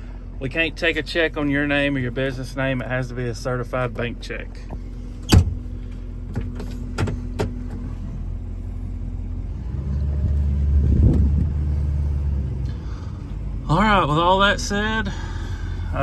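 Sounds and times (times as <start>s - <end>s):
low steady hum: 0.0s - 16.0s
vehicle engine droning: 0.0s - 16.0s.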